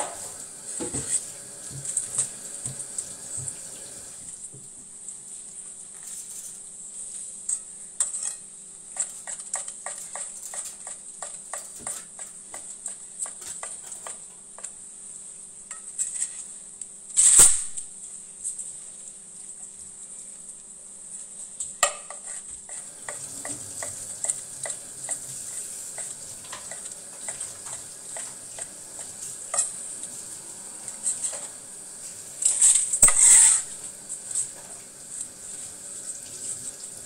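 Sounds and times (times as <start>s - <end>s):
steady hum and hiss: 0.0s - 37.0s.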